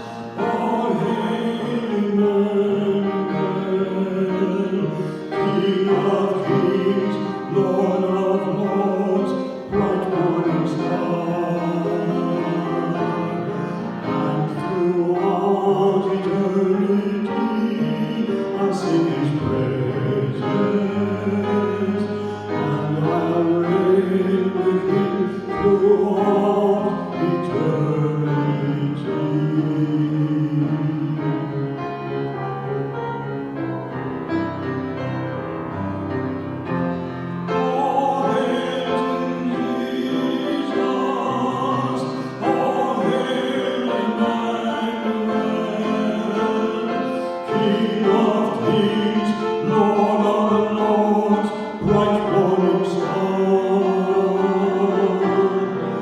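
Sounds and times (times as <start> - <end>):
hymn singing: 0.0 - 56.0.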